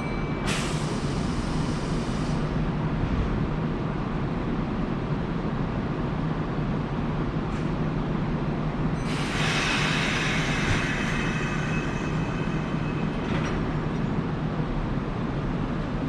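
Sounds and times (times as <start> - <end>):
train wheel and rail noise: 0.0 - 16.0.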